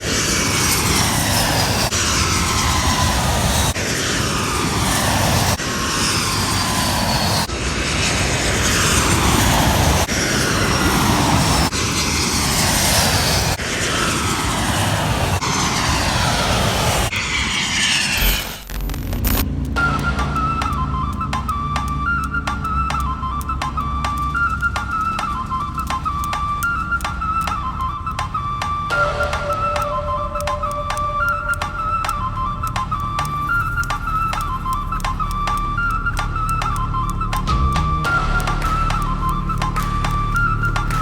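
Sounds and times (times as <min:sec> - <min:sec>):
airplane engine passing: 0:00.0 - 0:41.0.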